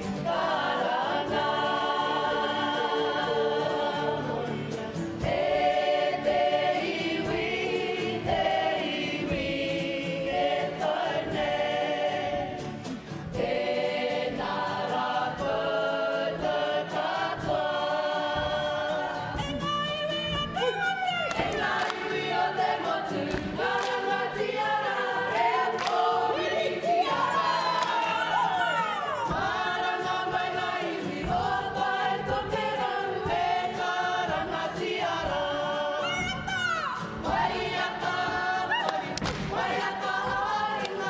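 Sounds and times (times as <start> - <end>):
group singing in harmony: 0.0 - 41.0
guitar strumming: 0.0 - 41.0.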